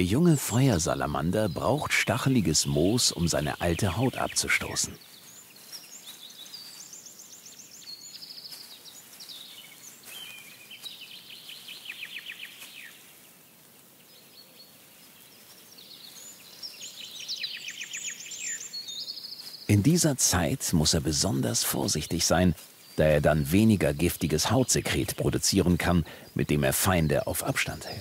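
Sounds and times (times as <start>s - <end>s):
soft background hiss: 0.0s - 28.0s
songbirds trilling: 0.0s - 28.0s.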